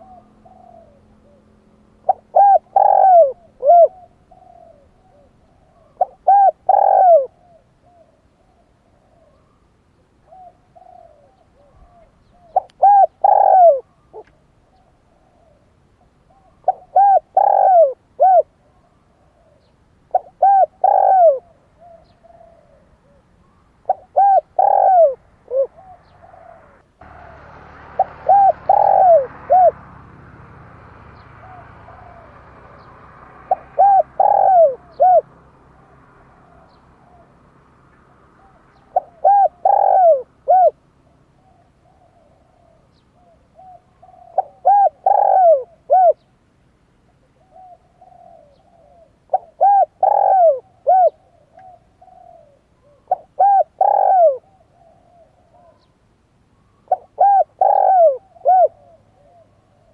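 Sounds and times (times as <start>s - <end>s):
faint steady hiss: 0.0s - 33.8s, 34.7s - 59.9s
dove cooing: 0.0s - 46.4s, 47.0s - 59.9s.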